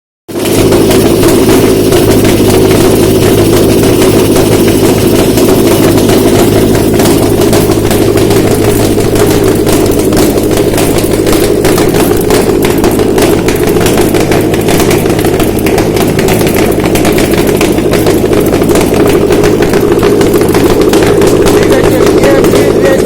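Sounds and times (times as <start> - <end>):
engine running steadily: 0.3 - 23.0.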